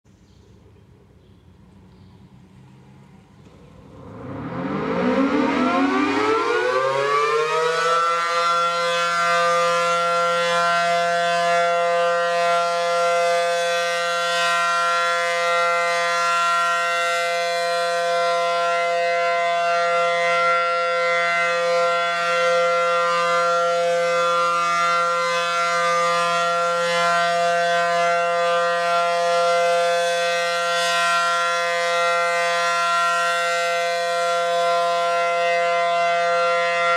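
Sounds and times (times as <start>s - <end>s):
warning siren winding up: 3.9s - 36.9s.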